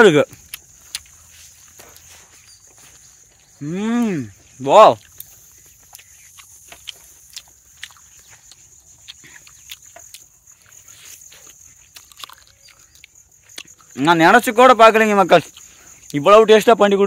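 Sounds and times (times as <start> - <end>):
chewing and lip-smacking: 0.3 - 3.6, 4.4 - 14.0, 15.4 - 16.2.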